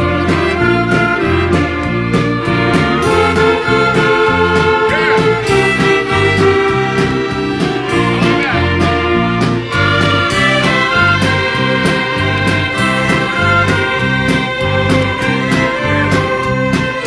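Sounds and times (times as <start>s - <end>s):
bass line: 0.0s - 17.0s
brass: 0.0s - 17.0s
drum kit with cymbals: 0.0s - 17.0s
violins: 0.0s - 17.0s.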